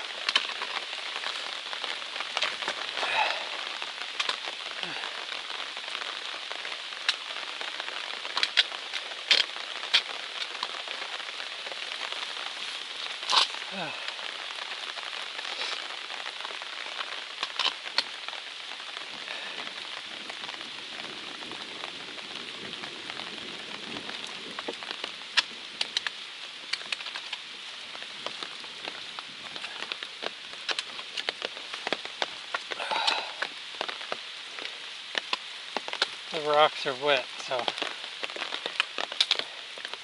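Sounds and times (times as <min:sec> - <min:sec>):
raindrop ticks striking close: 0:00.0 - 0:40.0
steady rain hiss: 0:00.0 - 0:40.0.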